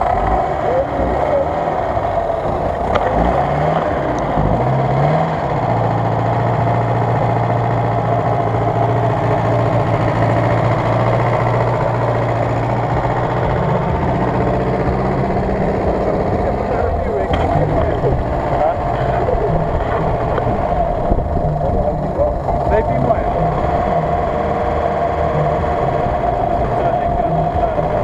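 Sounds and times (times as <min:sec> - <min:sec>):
suv engine revving: 0:00.0 - 0:28.0.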